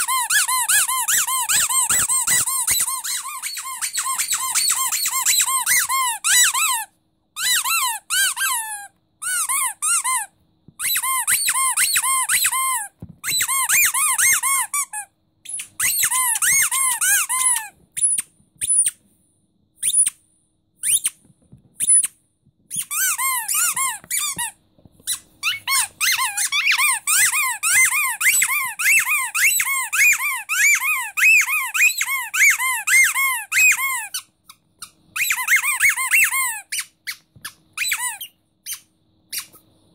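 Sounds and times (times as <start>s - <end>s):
rubber squeaky toy squeaking: 0.0s - 19.0s, 19.8s - 20.2s, 20.8s - 39.7s.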